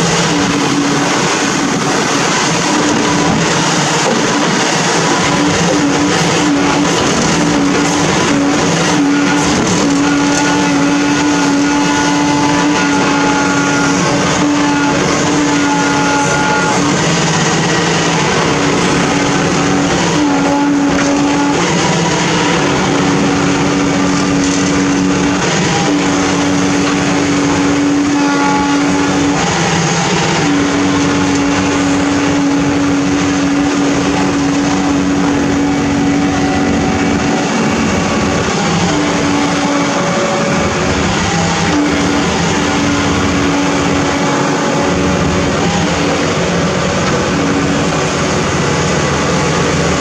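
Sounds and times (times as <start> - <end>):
diesel engine running: 0.0 - 50.0
hydraulic humming tone: 0.0 - 50.0.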